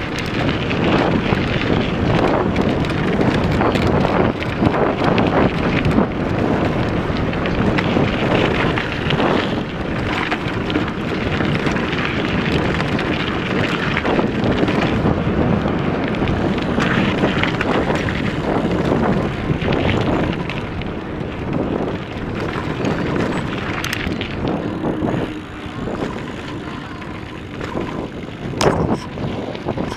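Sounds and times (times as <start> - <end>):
bike rattling over bumps: 0.0 - 29.9
tyres crunching over gravel: 0.0 - 29.9
wind buffeting microphone: 0.0 - 29.9.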